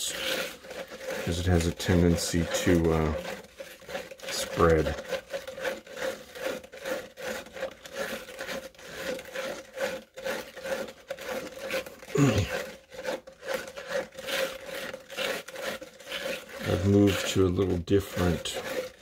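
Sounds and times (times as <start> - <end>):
stick scraping inside plastic cup: 0.0 - 19.0.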